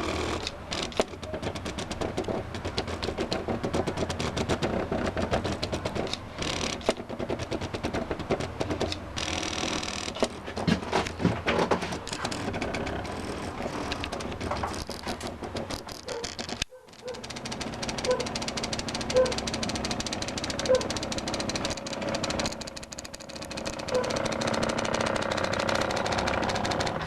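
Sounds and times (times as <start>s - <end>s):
stepper motors ticking and buzzing: 0.0s - 27.0s.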